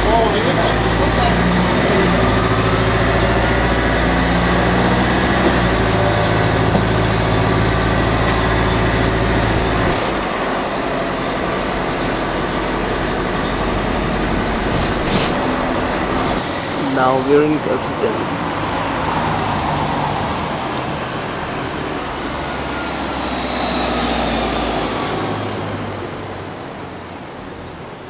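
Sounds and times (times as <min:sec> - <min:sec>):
bus engine drone: 0:00.0 - 0:28.0
road noise: 0:00.0 - 0:28.0.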